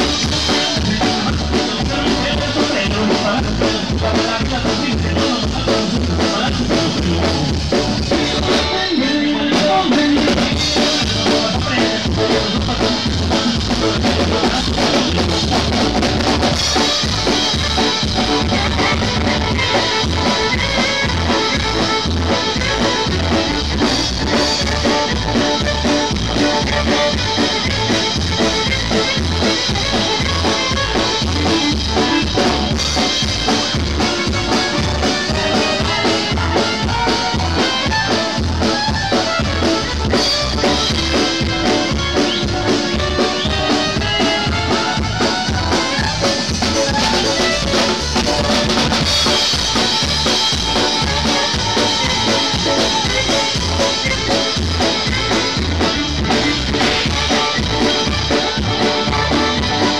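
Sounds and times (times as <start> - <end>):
drum kit beat: 0.0 - 59.9
live dance band through pa: 0.0 - 59.9.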